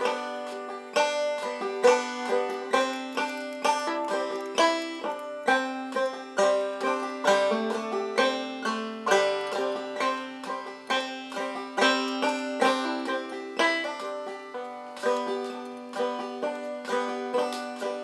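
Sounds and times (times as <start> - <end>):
plucked string instrumental tune: 0.0 - 18.0.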